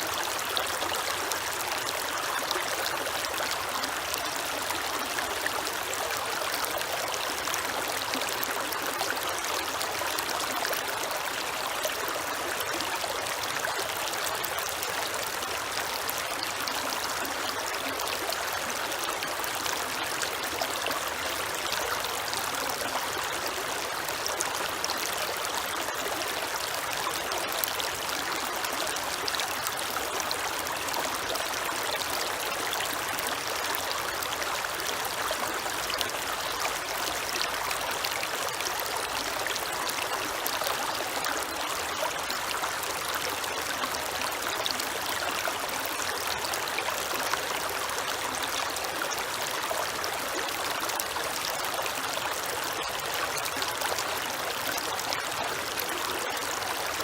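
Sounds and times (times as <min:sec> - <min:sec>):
creek water running and trickling: 0:00.0 - 0:57.0.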